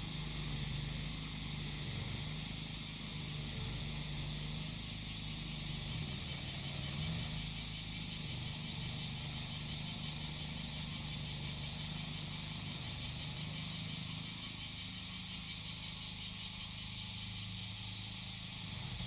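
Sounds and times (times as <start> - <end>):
cicadas chorus: 0.0 - 19.0
lawn mower engine running: 0.0 - 19.0.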